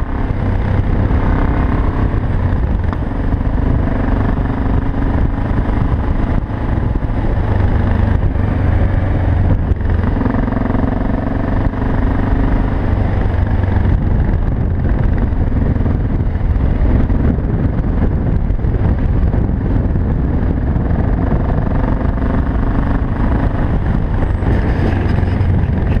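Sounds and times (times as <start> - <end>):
motorcycle engine cruising: 0.0 - 26.0
wind buffeting microphone: 0.0 - 26.0.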